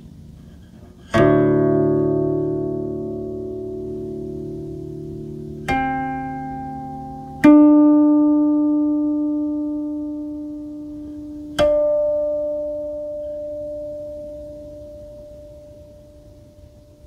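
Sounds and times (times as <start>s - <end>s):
plucked zither notes ringing: 0.0s - 17.0s.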